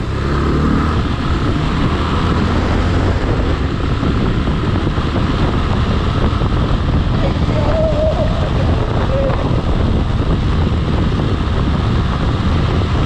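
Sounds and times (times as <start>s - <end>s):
vehicle engine running: 0.0s - 13.0s
wind rumble on microphone: 0.0s - 13.0s.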